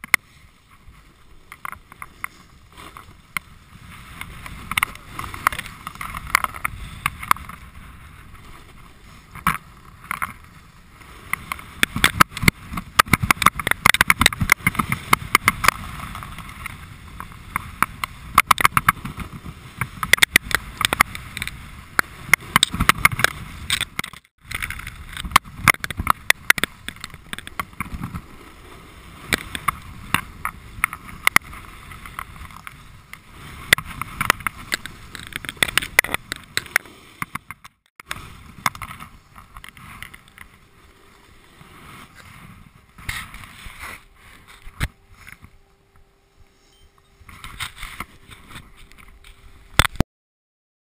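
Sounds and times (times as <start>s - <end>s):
snowboard scraping over snow: 0.0s - 49.8s.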